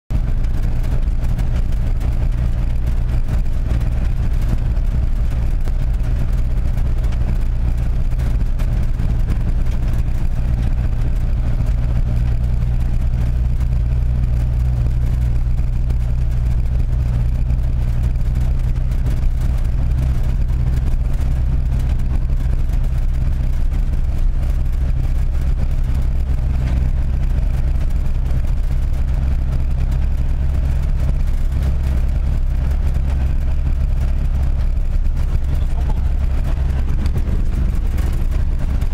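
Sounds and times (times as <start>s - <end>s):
road noise: 0.1s - 38.9s
vehicle engine droning: 0.1s - 38.9s.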